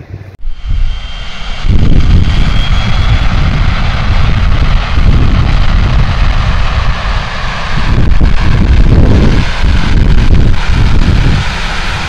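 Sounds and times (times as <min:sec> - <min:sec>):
jet airliner landing rumble: 0:00.0 - 0:12.0.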